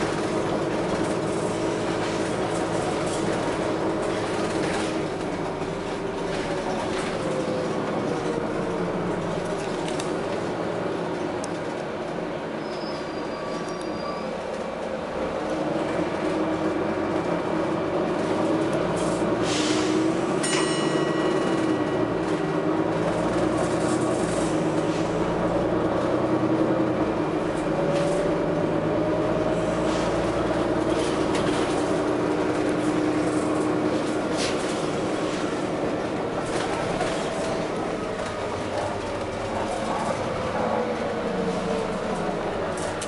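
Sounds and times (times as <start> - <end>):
bus engine drone: 0.0 - 43.0.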